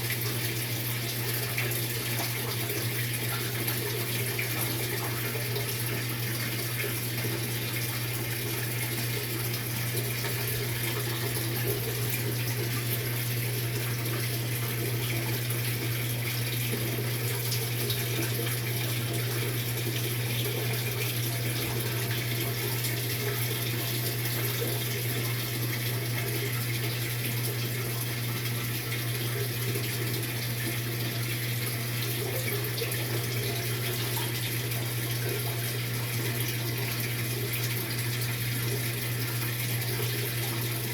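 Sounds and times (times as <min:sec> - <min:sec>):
washing machine water rushing: 0:00.0 - 0:40.9.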